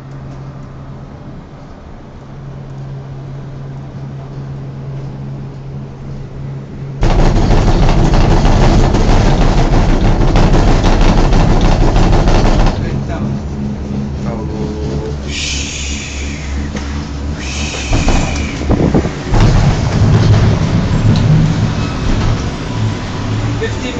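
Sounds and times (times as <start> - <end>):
cable car cabin humming: 0.0 - 23.9
rattling rumble of rollers: 0.0 - 23.9.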